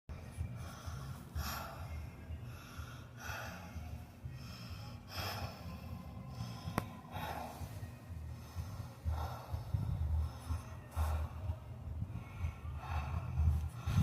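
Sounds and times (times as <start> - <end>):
low rumble: 0.1 - 14.0
person breathing slowly: 0.2 - 14.0.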